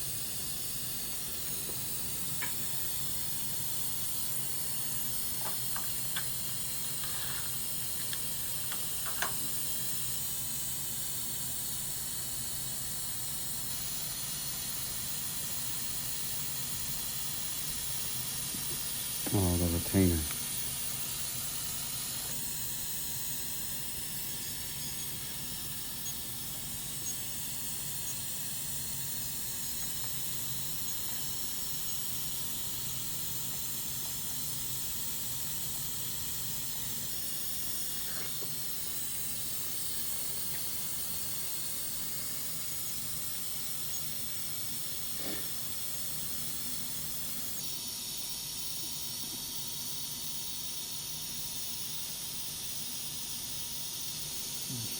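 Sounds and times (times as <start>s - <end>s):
steady high-pitched hiss: 0.0s - 54.9s.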